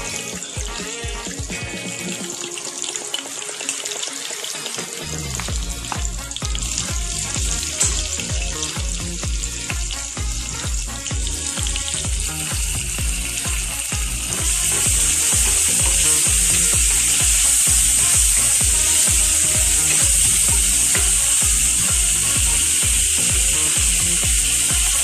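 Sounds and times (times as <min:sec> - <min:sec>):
background music with steady beat: 0:00.0 - 0:25.0
onions sizzling in hot oil: 0:00.0 - 0:25.0.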